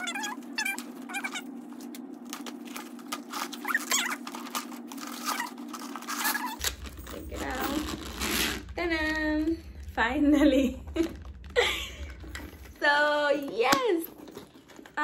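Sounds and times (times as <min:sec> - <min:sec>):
plastic wrapping rustling: 0:00.0 - 0:09.4, 0:10.6 - 0:15.0.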